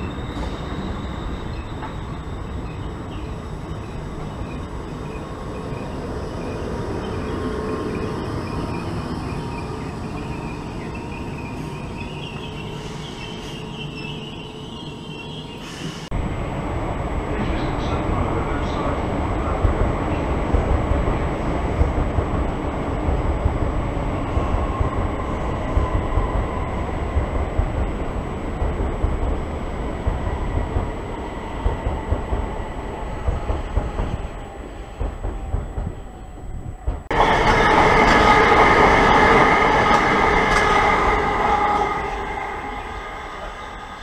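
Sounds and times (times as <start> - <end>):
train arriving with whining tones: 0.0 - 44.0
train rumble and whine: 0.0 - 44.0.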